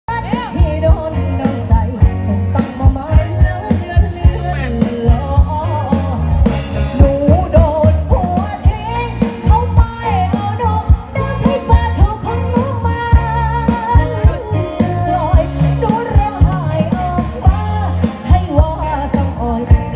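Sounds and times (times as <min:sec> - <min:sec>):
driving drum beat: 0:00.1 - 0:19.9
person singing: 0:00.1 - 0:19.9.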